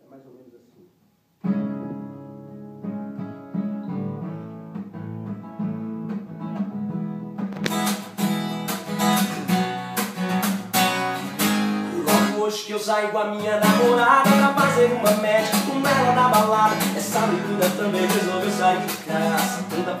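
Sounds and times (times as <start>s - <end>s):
acoustic guitar: 1.3s - 20.0s.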